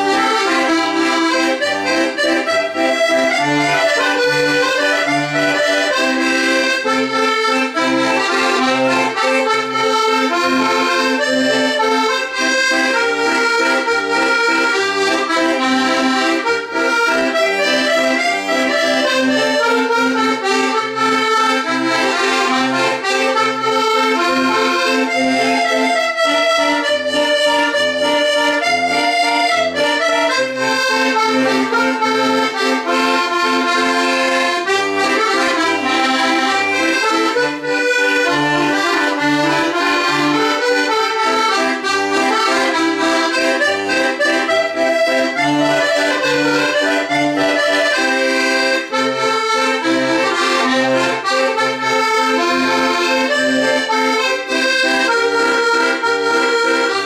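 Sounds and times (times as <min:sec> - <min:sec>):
button accordion playing: 0:00.0 - 0:57.0.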